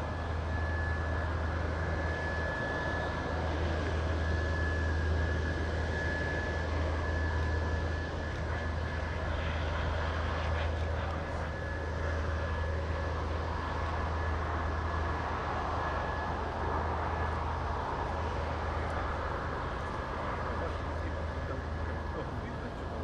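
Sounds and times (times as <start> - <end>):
jet engine rumble with whine: 0.0 - 23.0.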